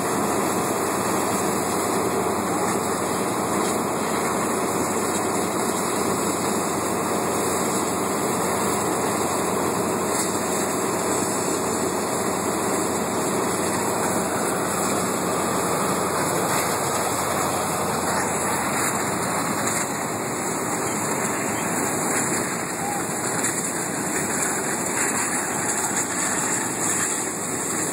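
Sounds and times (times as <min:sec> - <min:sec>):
burning gas roaring: 0:00.0 - 0:27.9.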